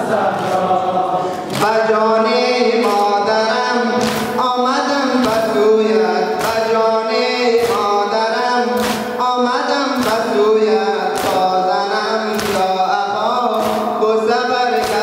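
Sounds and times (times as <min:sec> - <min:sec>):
man chanting a lament: 0:00.0 - 0:15.0.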